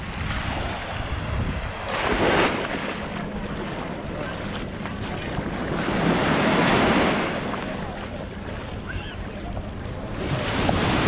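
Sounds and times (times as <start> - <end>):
small waves washing on beach: 0.0 - 11.0
wind buffeting microphone: 0.0 - 11.0.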